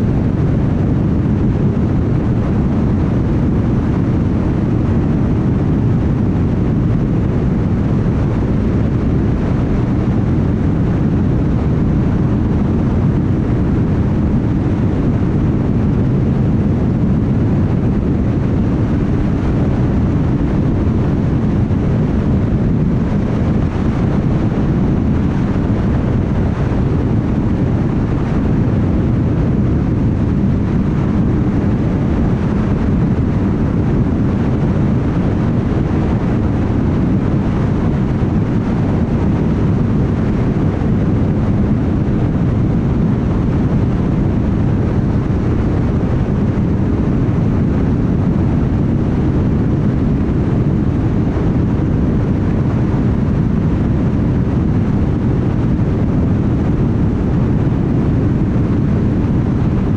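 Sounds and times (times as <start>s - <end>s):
wind noise: 0.0s - 59.9s.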